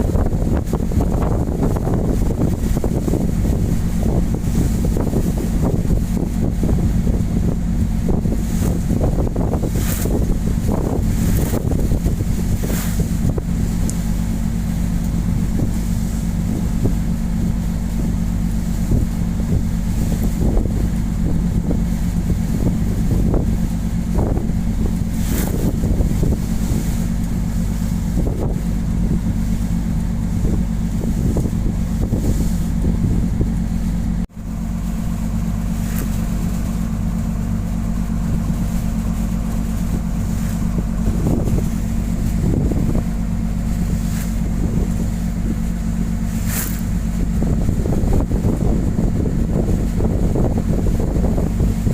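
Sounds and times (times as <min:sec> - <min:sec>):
boat engine running: 0:00.0 - 0:51.9
wind gusts buffeting microphone: 0:00.0 - 0:51.9.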